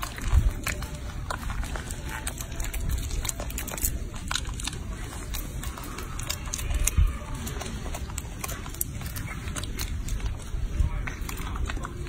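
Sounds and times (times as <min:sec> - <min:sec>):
monkeys chewing wet smacks: 0:00.0 - 0:12.0.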